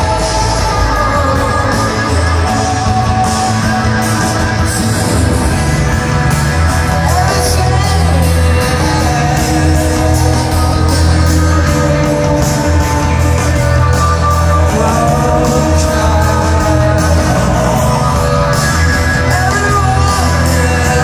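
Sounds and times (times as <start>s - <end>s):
bass notes: 0.0s - 21.0s
guitars: 0.0s - 21.0s
person singing: 0.0s - 21.0s.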